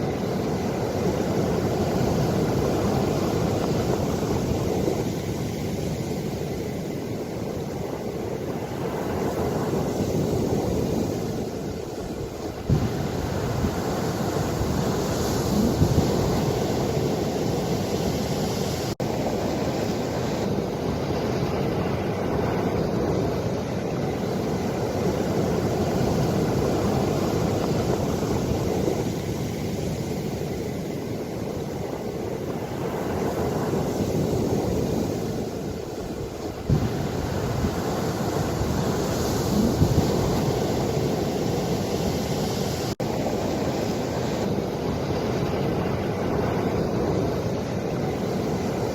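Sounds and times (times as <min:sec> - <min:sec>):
ocean waves washing in: 0:00.0 - 0:48.9.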